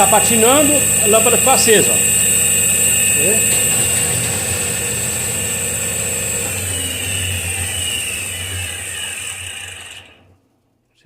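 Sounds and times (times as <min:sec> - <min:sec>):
alternator whir with high whine: 0:00.0 - 0:10.4.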